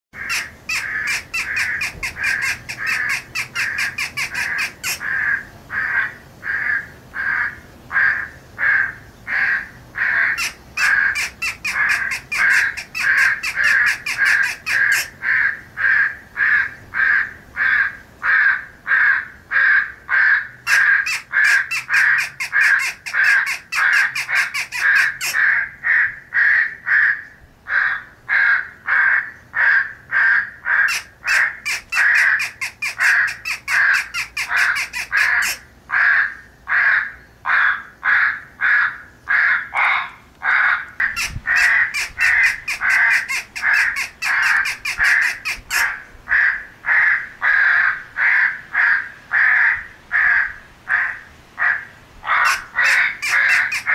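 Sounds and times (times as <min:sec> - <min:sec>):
crows cawing: 0:00.2 - 0:53.9.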